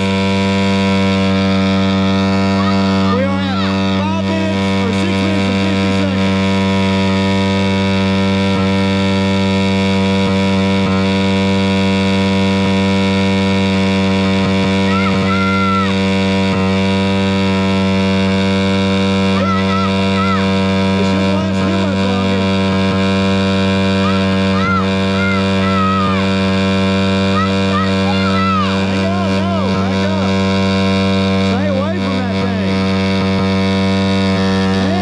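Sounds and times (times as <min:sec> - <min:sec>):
small motorcycle engine at high speed: 0:00.0 - 0:35.0.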